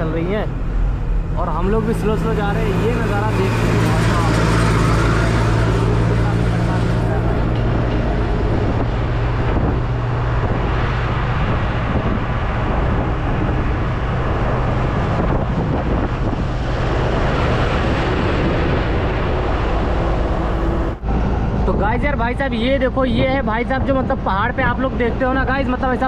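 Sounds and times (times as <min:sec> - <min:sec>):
wind on microphone: 0:00.0 - 0:22.3
road noise: 0:00.0 - 0:26.0
truck engine running: 0:00.0 - 0:26.0.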